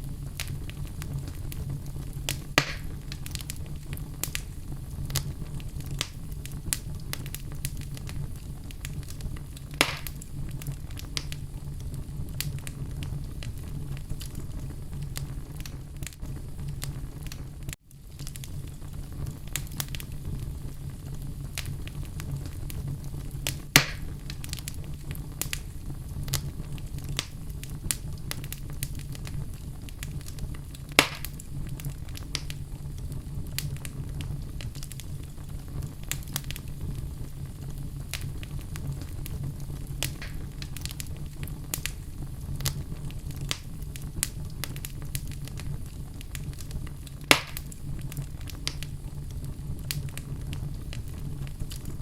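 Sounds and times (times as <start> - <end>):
fire crackling in fireplace: 0.0 - 52.0
fire popping: 0.0 - 52.0.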